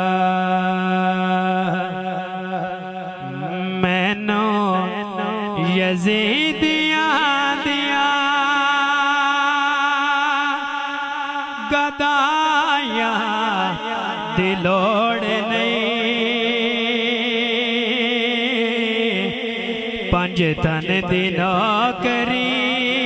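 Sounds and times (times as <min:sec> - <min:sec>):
low drone of voices: 0:00.0 - 0:23.0
man singing melismatic notes: 0:00.0 - 0:23.0.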